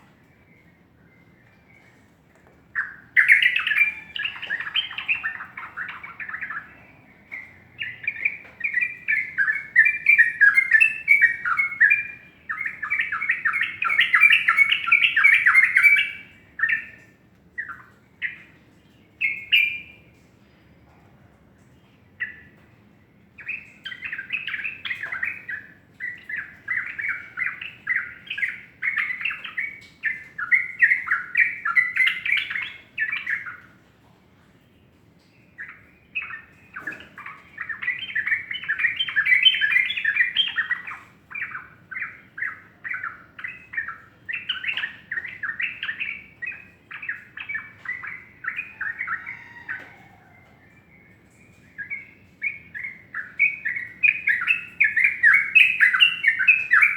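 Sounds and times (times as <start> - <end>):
bird chirping: 0.0 - 20.9, 21.8 - 33.8, 34.6 - 56.9.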